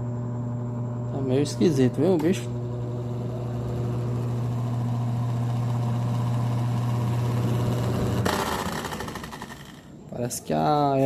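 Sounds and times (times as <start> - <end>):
fan motor humming and rattling: 0.0 - 11.0.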